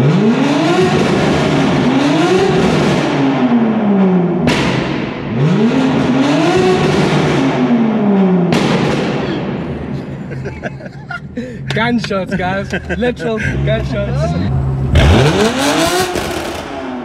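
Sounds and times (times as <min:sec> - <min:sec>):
car engine revving: 0:00.0 - 0:17.0
exhaust crack: 0:00.0 - 0:17.0.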